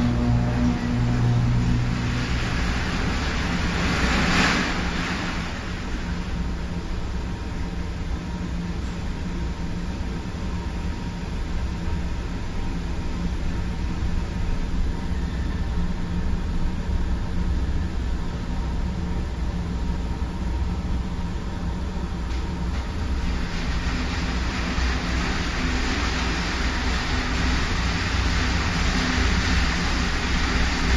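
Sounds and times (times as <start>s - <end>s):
furnace rumble and hiss: 0.0s - 30.9s.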